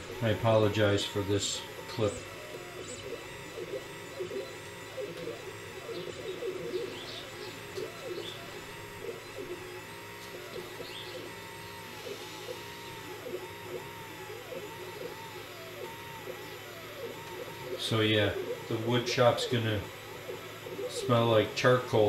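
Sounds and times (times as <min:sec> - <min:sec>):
steady hum: 0:00.0 - 0:22.0
stepper motors whining: 0:00.0 - 0:22.0.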